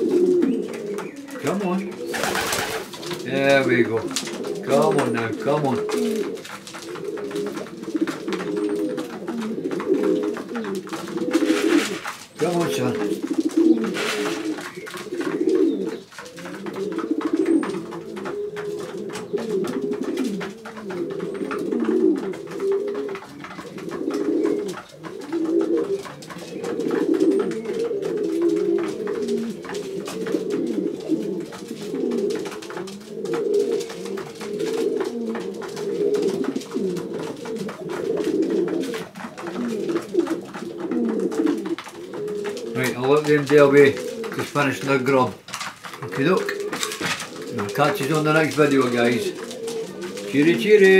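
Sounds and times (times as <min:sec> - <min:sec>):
birds clicking and tapping: 0:00.0 - 0:50.9
pigeons cooing: 0:00.0 - 0:50.9.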